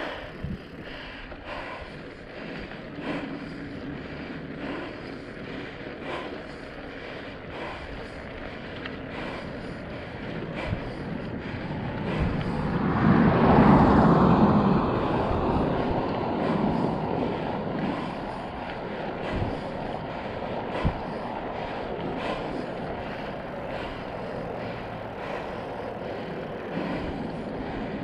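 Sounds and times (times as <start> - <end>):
tyre noise on road: 0.0 - 28.0
wind rushing over microphone: 0.0 - 28.0.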